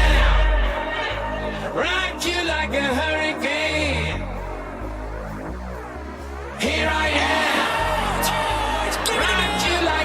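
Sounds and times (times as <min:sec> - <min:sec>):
electronic rock backing music: 0:00.0 - 0:10.0.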